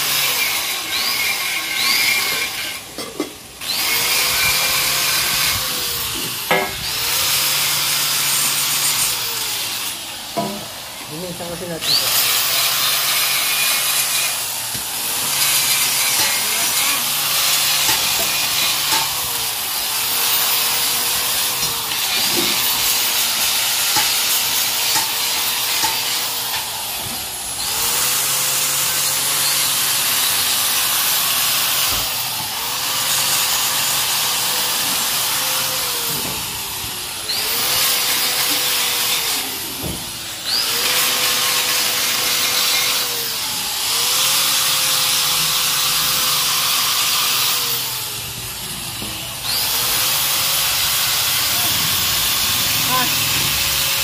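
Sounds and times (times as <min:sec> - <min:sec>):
power tool grinding rust off metal: 0:00.0 - 0:54.0.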